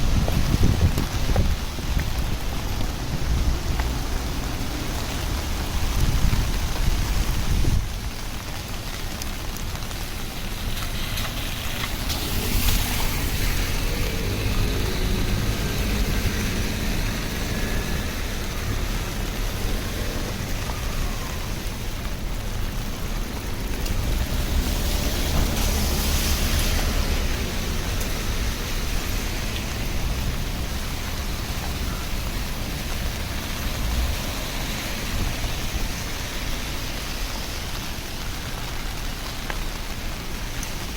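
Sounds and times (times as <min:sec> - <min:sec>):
steady rain on street: 0:00.0 - 0:40.9
vehicles passing on wet road: 0:00.0 - 0:40.9.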